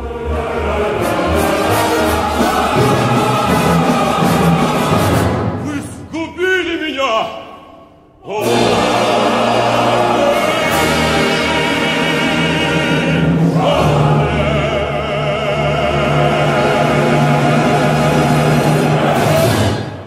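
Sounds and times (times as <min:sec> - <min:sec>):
male choir singing held chords: 0:00.0 - 0:05.6, 0:08.2 - 0:20.0
orchestral music: 0:00.0 - 0:06.9, 0:08.2 - 0:20.0.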